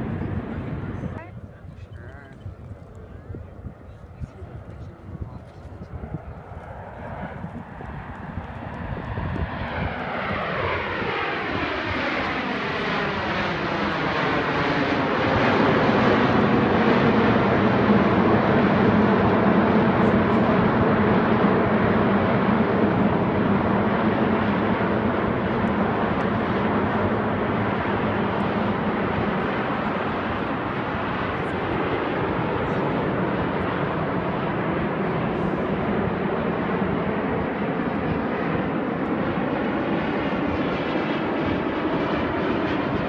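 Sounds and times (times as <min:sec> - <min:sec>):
jets flying overhead: 0:00.0 - 0:43.0.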